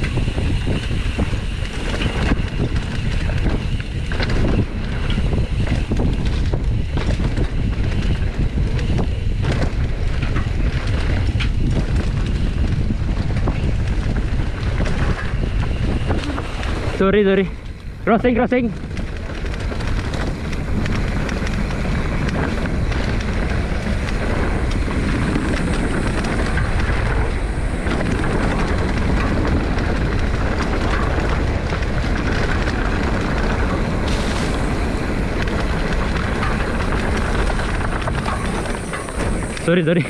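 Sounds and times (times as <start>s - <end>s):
bike rattling and clattering: 0.0s - 40.0s
wind rumble on microphone: 0.0s - 40.0s.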